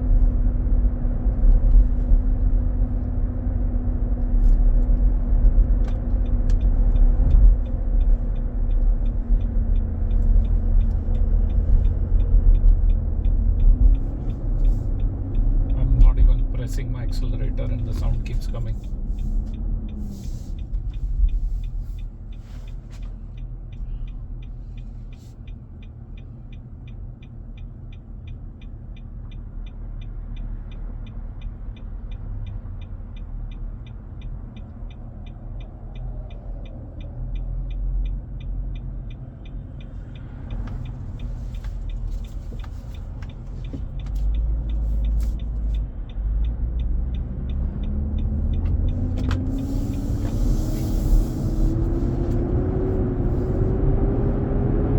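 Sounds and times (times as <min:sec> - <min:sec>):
engine cooling fan rumble: 0:00.0 - 0:54.9.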